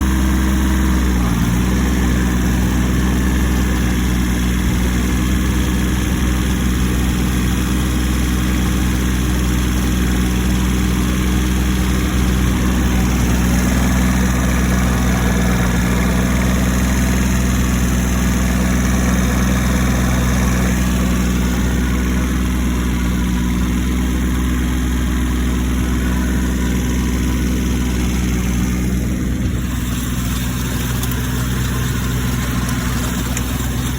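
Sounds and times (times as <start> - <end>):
tractor and tiller running: 0.0 - 33.9.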